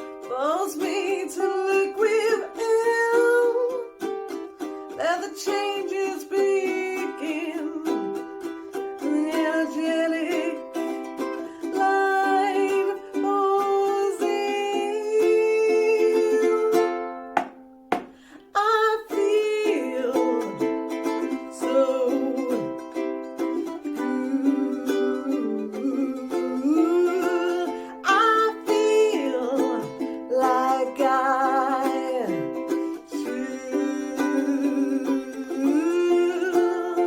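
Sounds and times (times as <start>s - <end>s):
person singing: 0.0s - 17.3s, 18.0s - 37.0s
ukulele playing: 0.0s - 37.0s.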